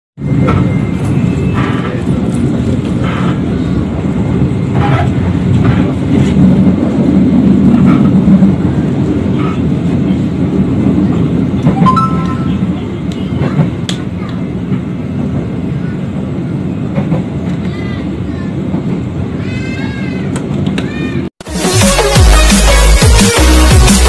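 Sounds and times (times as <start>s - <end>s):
train wheels rumbling on track: 0.2s - 11.8s, 12.4s - 21.3s.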